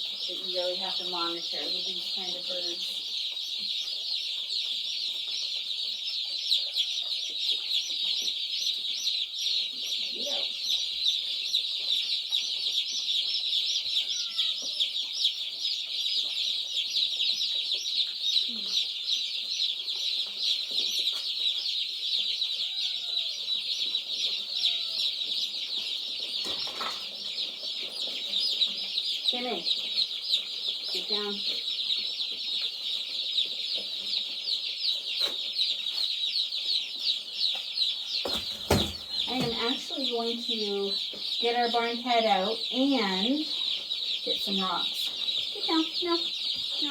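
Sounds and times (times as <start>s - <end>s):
chicks peeping: 0.0s - 46.9s.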